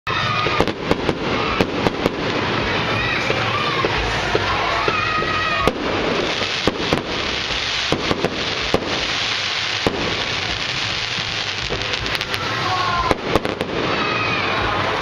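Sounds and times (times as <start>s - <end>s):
firework high whistling: 0.1s - 15.0s
fireworks bangs: 0.1s - 15.0s
fireworks crackling hiss: 0.1s - 15.0s.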